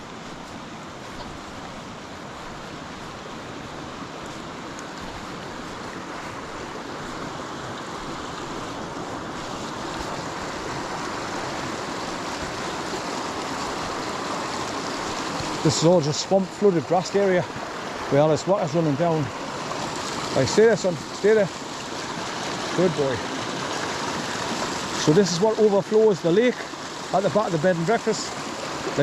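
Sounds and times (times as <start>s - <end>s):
rushing water of a swollen stream: 0.0s - 29.0s.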